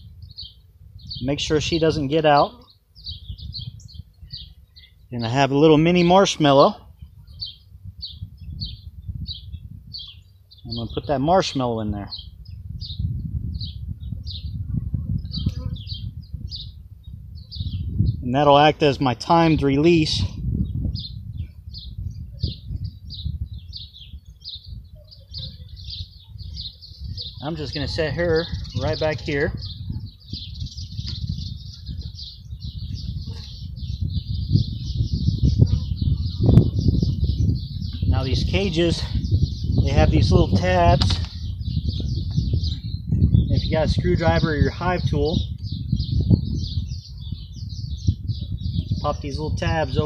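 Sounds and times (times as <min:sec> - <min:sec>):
small bird chirping: 0:02.2 - 0:05.4, 0:06.9 - 0:18.2, 0:20.6 - 0:50.0.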